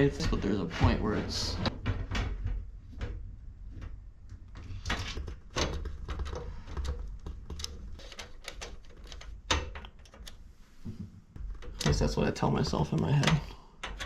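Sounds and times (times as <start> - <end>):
computer parts clicking and knocking: 1.7 - 10.4, 11.4 - 14.0.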